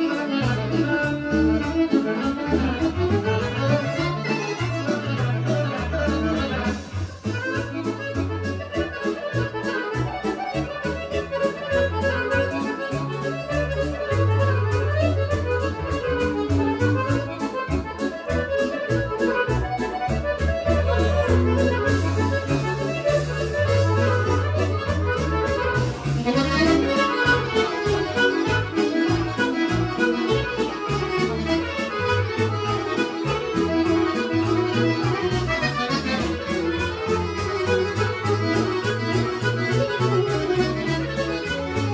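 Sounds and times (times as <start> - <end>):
accordion folk dance music: 0.0 - 41.9
pulsing bass: 0.0 - 41.9.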